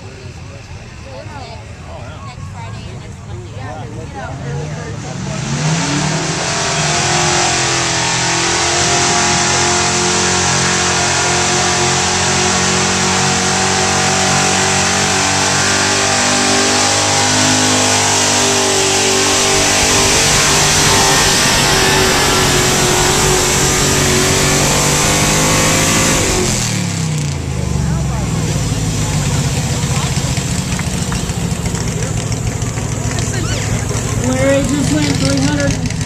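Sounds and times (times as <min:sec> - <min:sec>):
truck engine at full throttle: 0:00.0 - 0:36.0.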